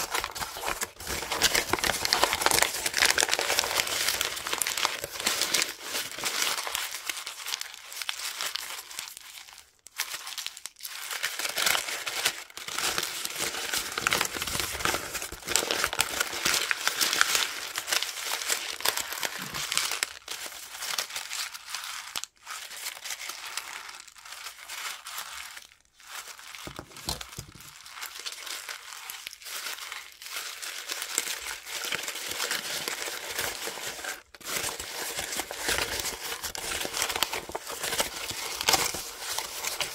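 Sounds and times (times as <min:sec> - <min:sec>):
paper crumpling: 0:00.0 - 0:39.9.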